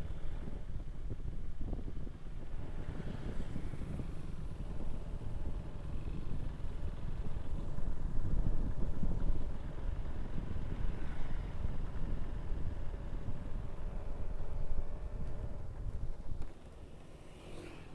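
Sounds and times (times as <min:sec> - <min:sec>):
motorcycle engine and road rumble: 0:00.0 - 0:17.9
wind buffeting microphone: 0:00.1 - 0:16.6.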